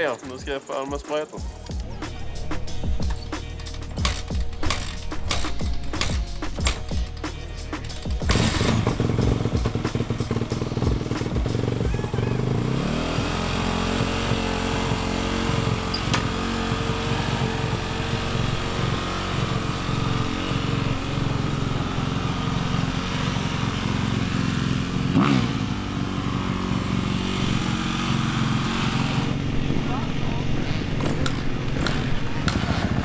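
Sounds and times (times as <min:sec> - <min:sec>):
dirt bike engine idling: 0:01.4 - 0:33.0
dirt bike engine revving: 0:02.6 - 0:33.0.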